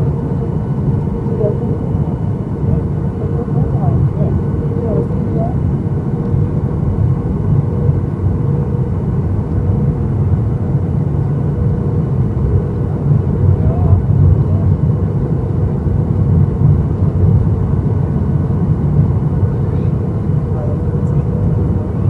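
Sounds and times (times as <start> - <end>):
airflow over fuselage: 0.0 - 22.0
deep rumble of jet engines: 0.0 - 22.0
faint steady hum: 0.0 - 22.0.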